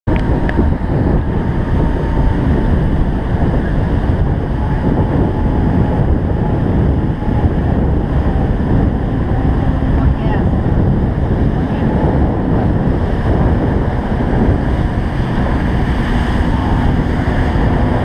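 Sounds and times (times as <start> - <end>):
water noise: 0.1 - 18.0
wind buffeting microphone: 0.1 - 18.0.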